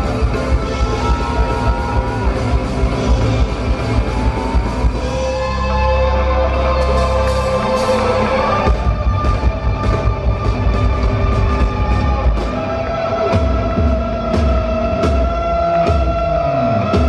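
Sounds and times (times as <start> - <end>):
electric guitars: 0.0 - 17.0.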